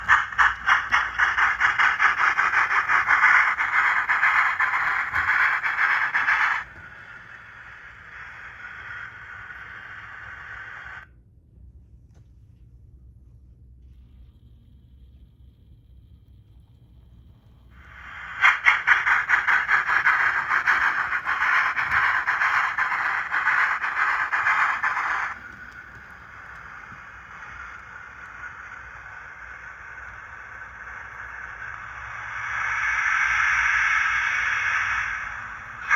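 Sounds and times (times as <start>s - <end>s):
model steam exhaust chuffs: 0.0s - 11.0s, 14.0s - 35.9s.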